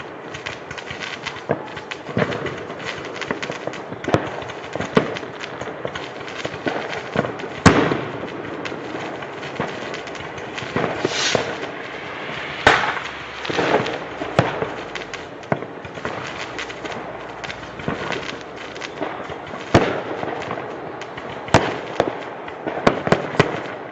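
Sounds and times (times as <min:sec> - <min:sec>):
firework bangs: 0:00.0 - 0:23.9
firework hiss: 0:00.0 - 0:23.9
fireworks crackling: 0:00.0 - 0:23.9.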